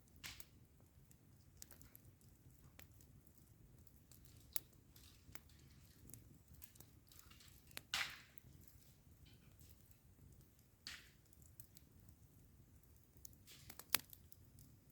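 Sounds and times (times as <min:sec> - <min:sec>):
burning wood popping: 0:00.0 - 0:14.9
campfire crackling: 0:00.0 - 0:14.9.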